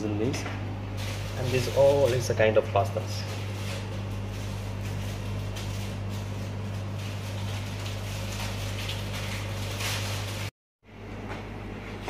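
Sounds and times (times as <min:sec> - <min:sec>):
ventilation fan humming: 0:00.0 - 0:12.0.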